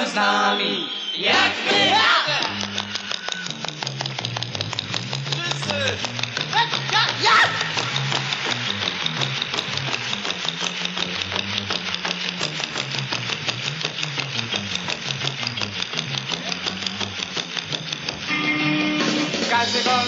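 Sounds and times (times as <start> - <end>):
fast percussive beat: 1.3 - 18.4, 19.0 - 20.0
electric bass line: 1.5 - 20.0.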